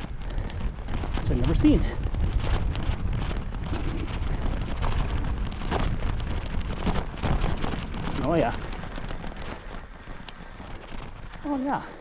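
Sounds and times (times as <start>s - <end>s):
tyres crackling over snow: 0.0s - 12.0s
wind rumbling on microphone: 0.0s - 12.0s.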